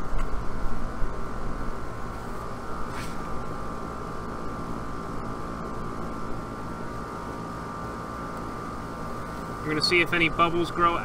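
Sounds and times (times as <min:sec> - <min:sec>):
air conditioner unit humming: 0:00.0 - 0:11.0
high steady whine: 0:00.0 - 0:11.0.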